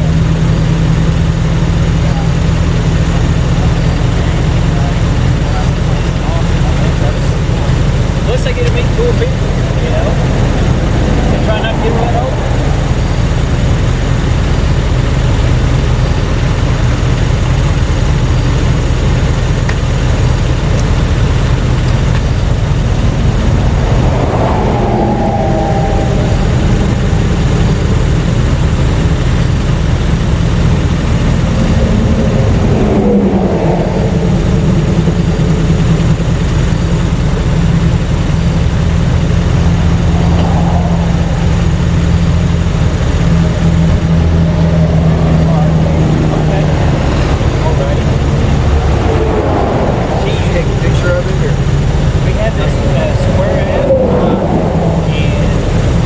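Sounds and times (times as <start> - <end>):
highway traffic rushing: 0.0 - 56.0
loud vehicles passing by: 0.0 - 56.0.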